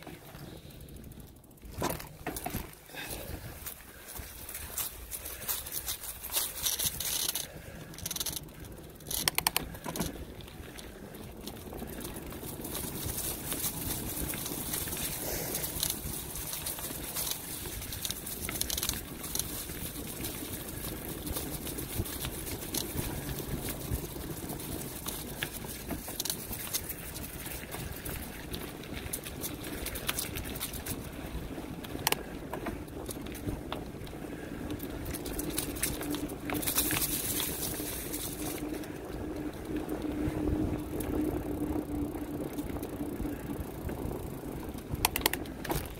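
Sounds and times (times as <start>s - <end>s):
bicycle clicks and rattles: 0.0s - 45.9s
bicycle tyres rushing: 0.0s - 45.9s.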